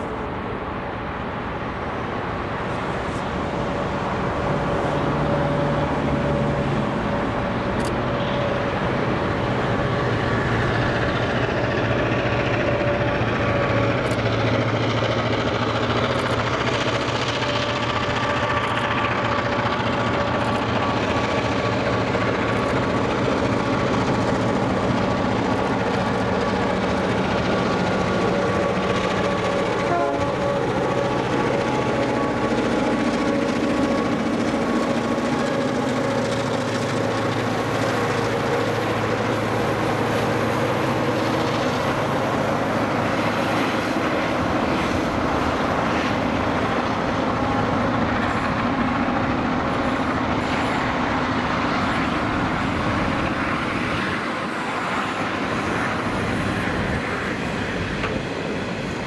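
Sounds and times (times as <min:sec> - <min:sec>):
diesel freight train passing: 0:00.0 - 0:59.0.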